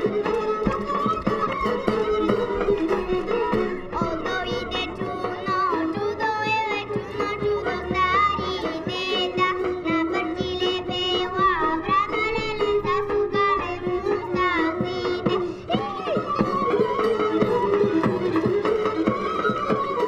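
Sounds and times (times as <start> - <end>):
folk music with ornamented melody: 0.0 - 20.0.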